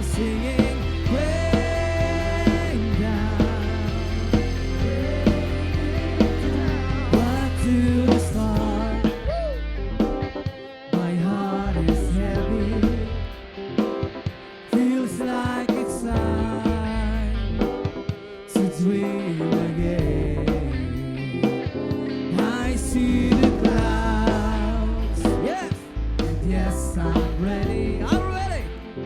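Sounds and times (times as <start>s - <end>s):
bass: 0.0s - 14.1s, 15.2s - 29.0s
band playing instrumental: 0.0s - 29.0s
drum kit: 0.0s - 29.0s.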